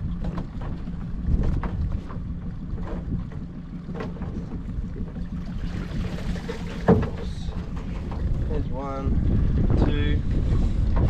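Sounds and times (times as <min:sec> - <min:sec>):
outboard motor running: 0:00.0 - 0:11.0
wind buffeting microphone: 0:00.0 - 0:11.0.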